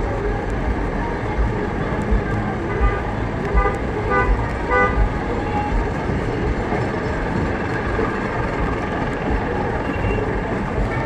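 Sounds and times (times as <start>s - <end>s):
bus engines rumbling: 0.0s - 11.0s
street noise: 0.0s - 11.0s.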